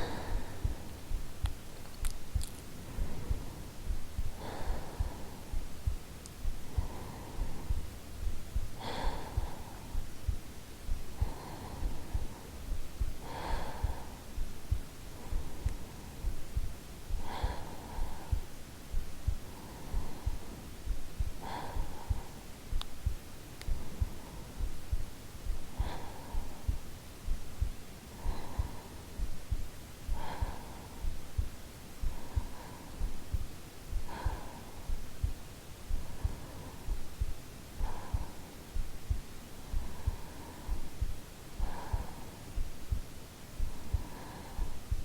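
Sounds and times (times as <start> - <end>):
heartbeat thumps: 0.0 - 45.0
soft breathing-like rush: 0.0 - 45.0.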